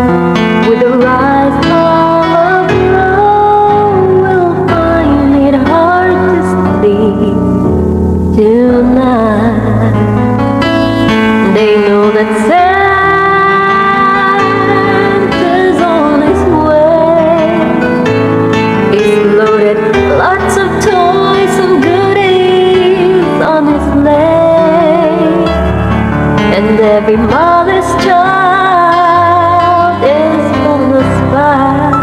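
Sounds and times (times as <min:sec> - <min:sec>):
person singing: 0:00.0 - 0:25.7, 0:26.4 - 0:32.0
instrumental accompaniment: 0:00.0 - 0:32.0.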